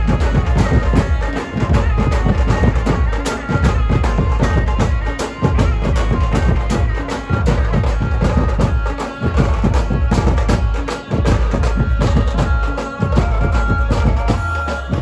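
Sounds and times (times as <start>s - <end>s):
drums and metal cymbals: 0.0s - 15.0s.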